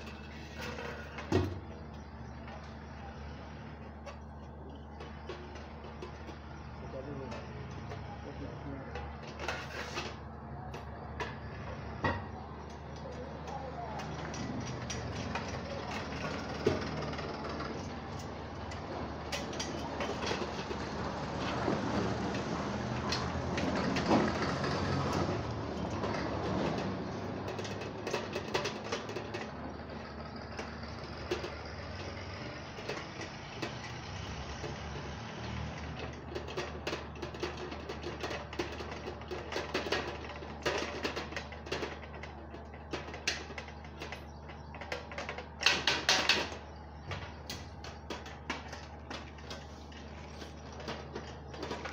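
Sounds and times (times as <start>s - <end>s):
engine-like rumble: 0.0s - 51.9s.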